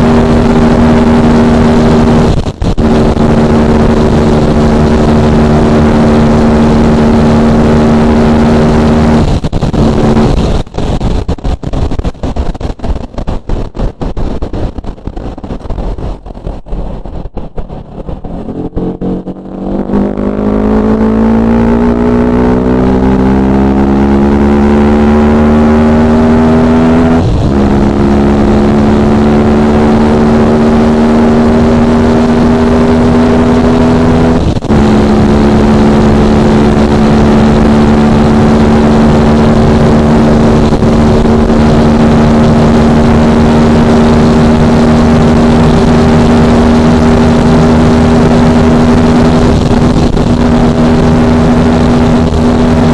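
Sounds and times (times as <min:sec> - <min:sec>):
motorcycle engine at full throttle: 0:00.0 - 0:52.9.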